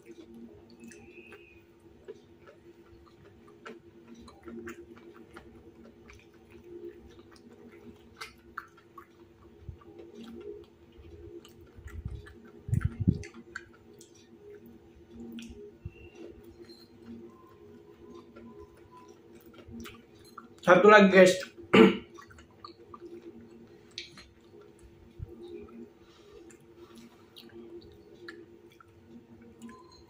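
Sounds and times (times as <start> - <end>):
chewing crispy food: 0.0 - 30.0.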